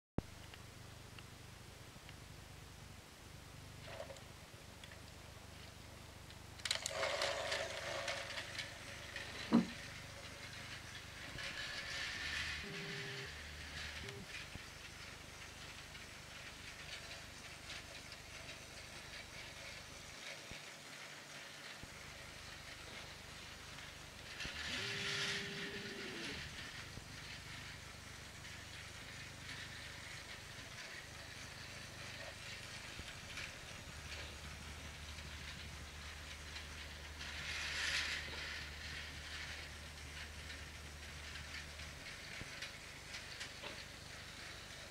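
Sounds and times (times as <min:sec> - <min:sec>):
toy train motor hum: 0:06.3 - 0:44.9
wheels clattering over rail joints: 0:06.4 - 0:44.9.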